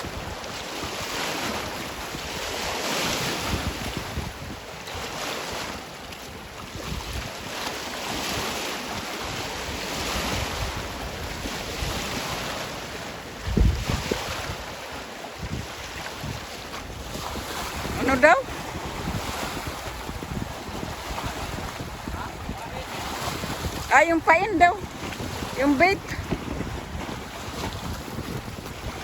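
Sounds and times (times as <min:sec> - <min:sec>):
wind gusting over microphone: 0:00.0 - 0:29.0.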